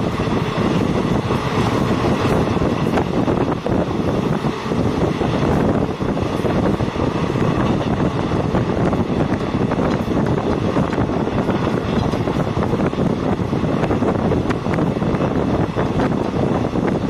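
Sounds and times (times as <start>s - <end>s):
rushing air: 0.0s - 17.0s
train wheels on rails: 0.0s - 17.0s
wind buffeting microphone: 0.0s - 17.0s.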